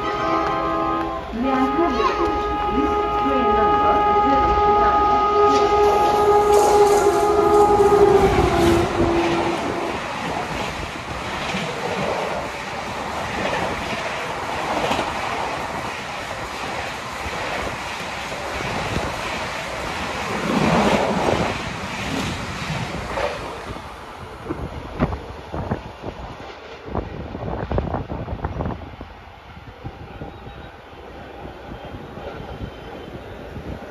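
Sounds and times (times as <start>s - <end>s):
train coaches rolling past: 0.0s - 33.9s.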